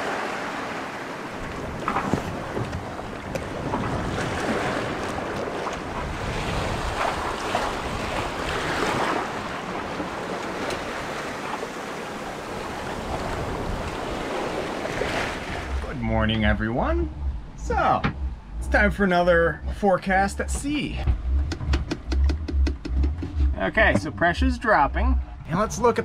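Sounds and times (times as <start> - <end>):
seawater rushing along a hull: 0.0 - 26.0
wind buffeting microphone: 1.4 - 11.4, 12.1 - 26.0.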